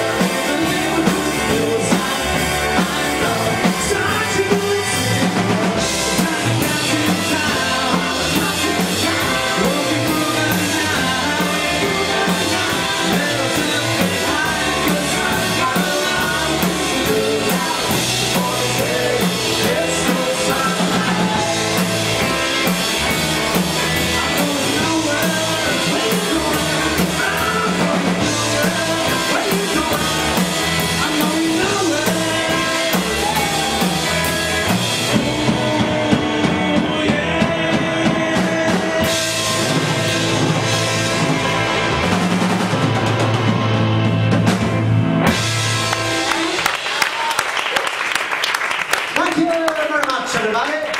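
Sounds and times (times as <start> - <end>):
man singing: 0.0 - 41.3
drum kit rock beat: 0.0 - 47.3
electric guitars: 0.0 - 47.8.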